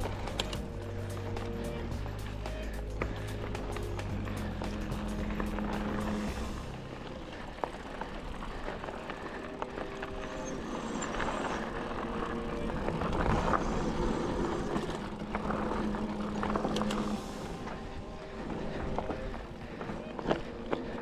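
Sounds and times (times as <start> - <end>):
bike rattling over bumps: 0.0 - 21.0
bike tyres rushing on dirt: 0.0 - 21.0.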